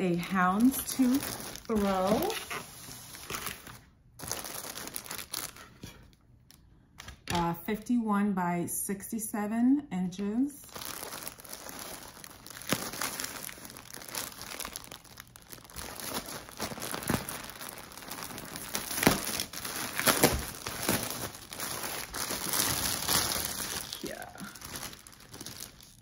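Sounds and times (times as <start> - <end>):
packaging crinkling and rustling: 0.2 - 6.6, 10.6 - 26.0.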